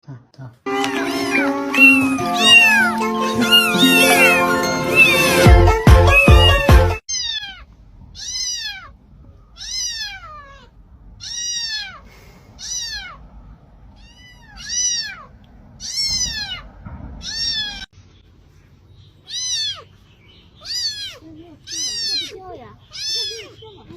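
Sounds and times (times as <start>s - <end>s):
kitten meowing: 0.8s - 9.0s, 9.6s - 13.2s, 13.9s - 17.9s, 19.2s - 19.9s, 20.6s - 23.7s.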